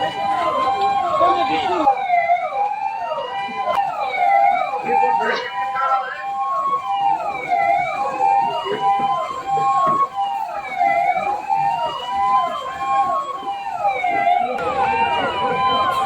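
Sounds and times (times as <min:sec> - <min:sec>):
siren slow wail: 0:00.0 - 0:16.0.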